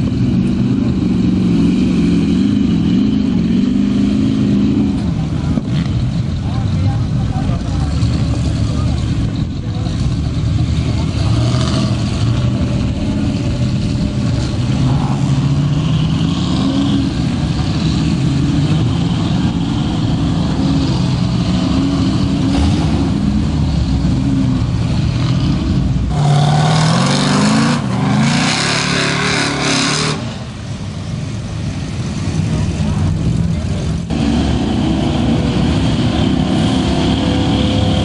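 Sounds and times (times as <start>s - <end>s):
truck engines revving: 0.0s - 38.0s
trucks pushing through water and mud: 0.0s - 38.0s.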